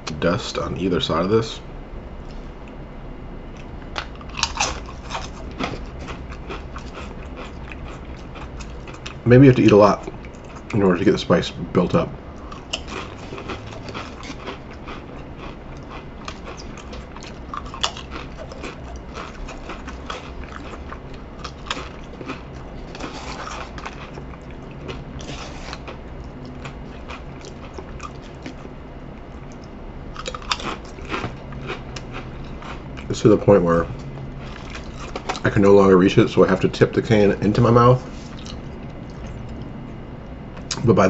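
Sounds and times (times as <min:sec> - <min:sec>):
person chewing crisps: 0:03.5 - 0:10.8, 0:11.8 - 0:35.6, 0:36.4 - 0:39.8.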